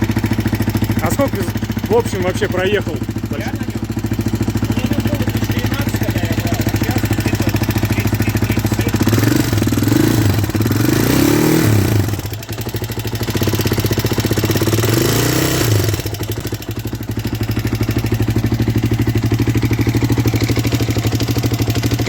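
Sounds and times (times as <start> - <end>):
engine revving and idling: 0.0 - 22.0.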